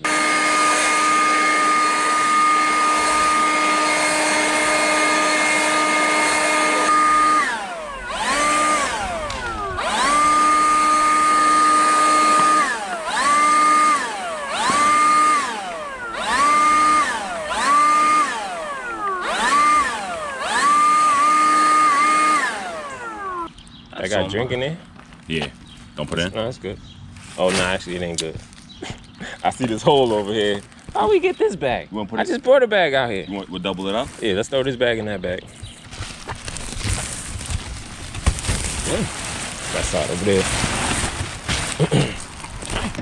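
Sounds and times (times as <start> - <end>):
leaf blower winding down and up: 0.0 - 24.3, 27.2 - 31.5, 33.3 - 34.9, 35.6 - 43.0.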